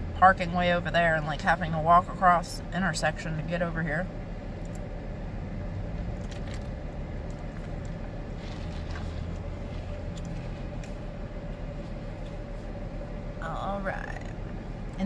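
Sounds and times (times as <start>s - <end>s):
low vehicle rumble: 0.0s - 15.0s
mid-pitched hum: 0.0s - 15.0s.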